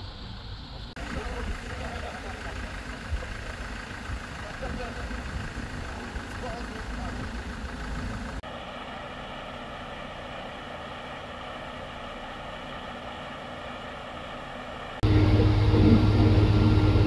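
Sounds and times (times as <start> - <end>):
heavy vehicle engine idling: 0.0 - 17.0
loud engine drone: 1.0 - 17.0.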